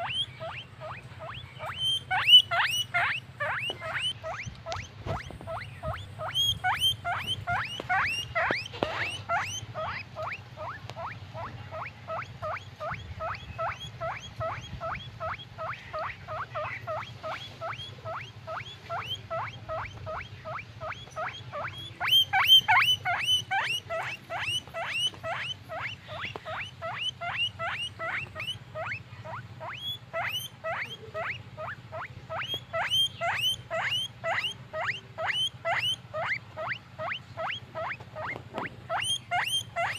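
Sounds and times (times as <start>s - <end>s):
guinea pig squeaking: 0.0s - 39.9s.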